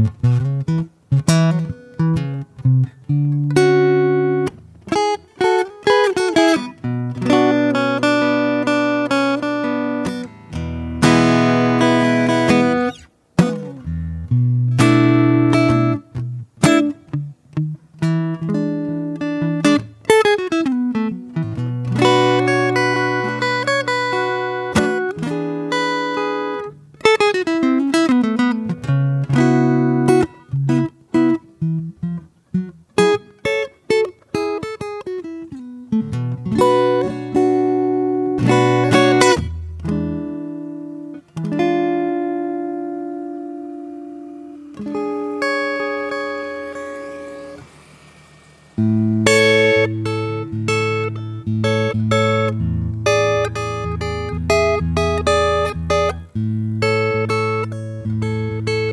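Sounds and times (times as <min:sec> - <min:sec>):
acoustic guitar fingerpicking: 0:00.0 - 0:58.9.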